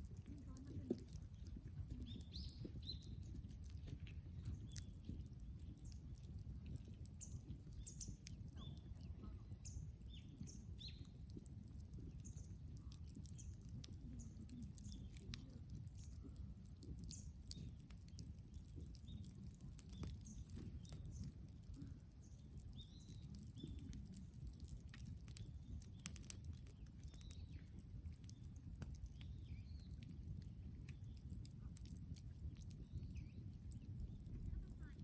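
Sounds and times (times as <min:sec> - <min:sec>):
bonfire crackling and popping: 0:00.0 - 0:35.0
low steady rumble: 0:00.0 - 0:35.0
faint bird chirps: 0:00.2 - 0:35.0.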